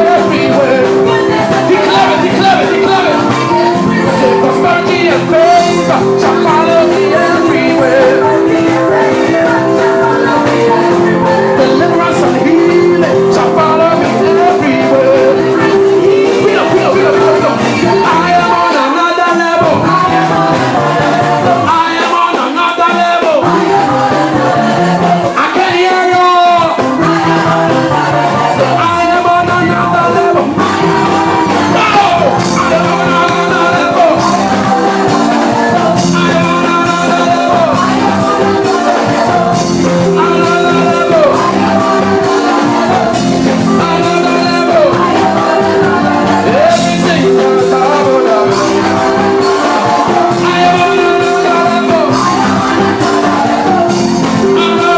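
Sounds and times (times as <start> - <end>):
live gospel band with singing: 0.0 - 54.9.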